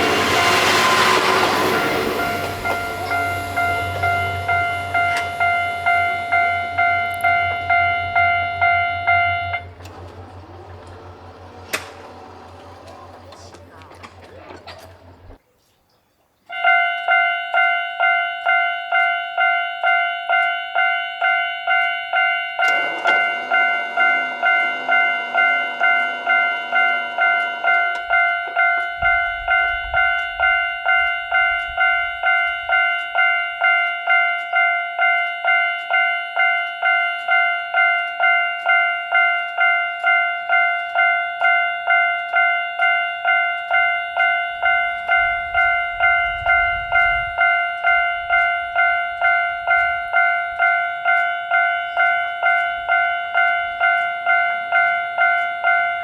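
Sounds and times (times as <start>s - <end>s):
railroad crossing bell dinging: 0.0s - 15.4s, 16.5s - 56.0s.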